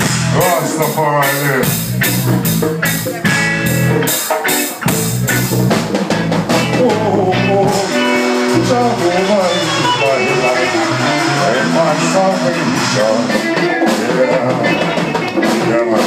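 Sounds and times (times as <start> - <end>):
low bass line: 0.0 - 4.2, 4.8 - 15.8
drum kit beat: 0.0 - 16.0
electric guitar: 0.0 - 16.0.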